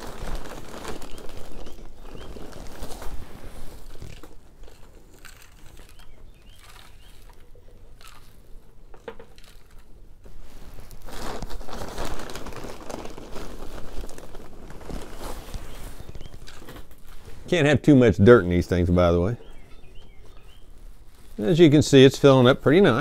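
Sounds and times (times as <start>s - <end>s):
soil rustling in plastic tray: 0.0s - 23.0s.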